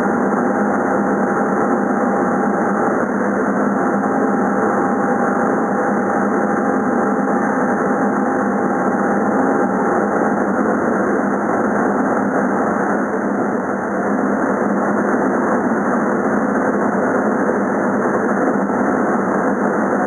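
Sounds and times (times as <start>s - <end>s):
laser cutting machine drone: 0.0s - 20.0s
thin steady whine: 0.0s - 20.0s.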